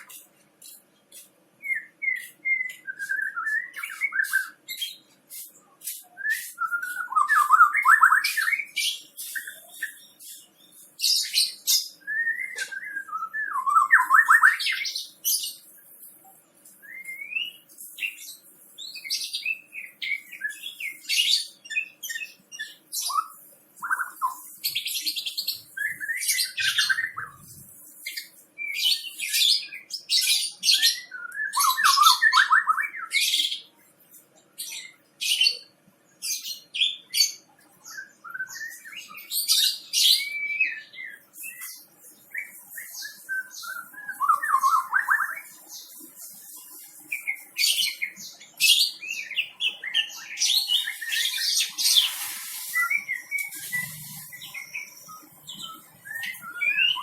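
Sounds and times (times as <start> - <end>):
bird singing: 0.0 - 15.7, 16.6 - 33.7, 34.6 - 57.0.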